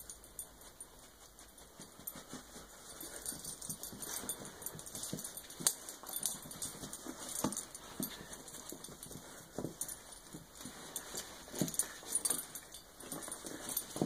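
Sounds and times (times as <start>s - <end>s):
scuffles and knocks of dog playing: 0.0s - 14.0s.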